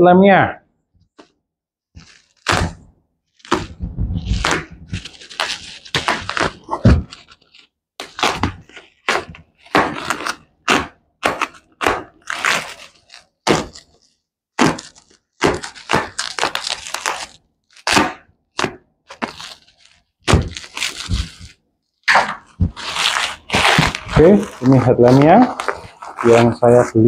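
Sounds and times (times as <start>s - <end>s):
packaging knocks and crackles: 2.0s - 26.9s
packaging rustling: 2.0s - 27.0s.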